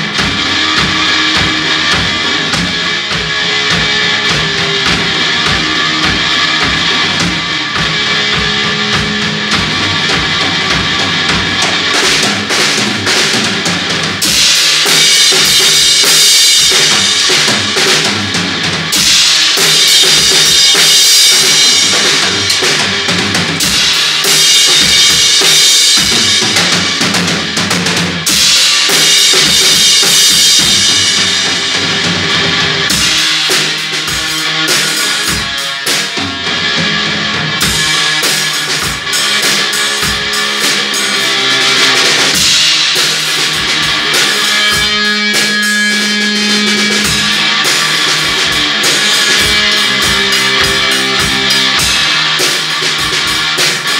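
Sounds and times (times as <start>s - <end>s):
bass guitar: 0.0s - 53.9s
distorted electric guitar: 0.0s - 53.9s
drum kit: 0.0s - 53.9s.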